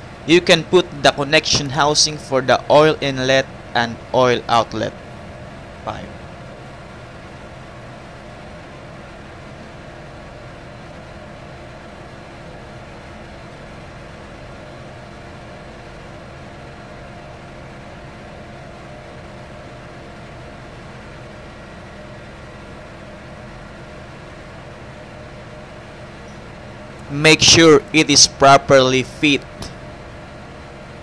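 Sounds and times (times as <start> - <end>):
machinery hum: 0.0 - 31.0.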